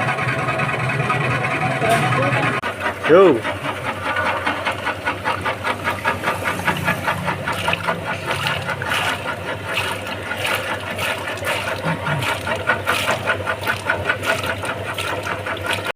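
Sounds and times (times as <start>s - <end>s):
machine rattling: 0.0s - 15.9s
motor hum: 0.0s - 15.9s.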